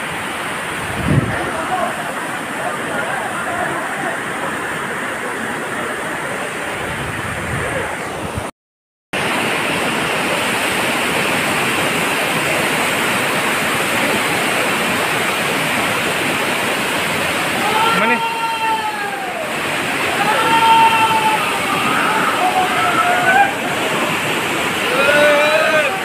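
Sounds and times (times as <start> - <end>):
stream rushing over rocks: 0.0 - 8.5, 9.2 - 26.0.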